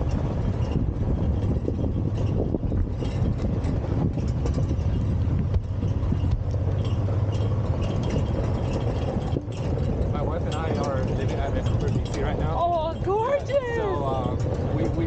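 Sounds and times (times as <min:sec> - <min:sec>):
clicks and rattles on gravel: 0:00.0 - 0:15.0
utility vehicle engine running: 0:00.0 - 0:15.0.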